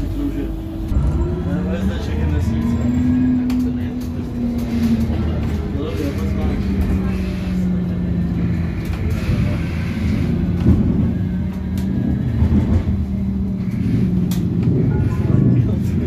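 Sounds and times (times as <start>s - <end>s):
low rumble of ride: 0.0s - 16.0s.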